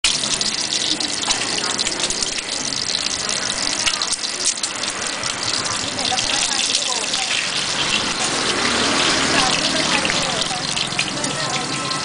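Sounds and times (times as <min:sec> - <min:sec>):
egg frying in hot oil: 0:00.0 - 0:12.0.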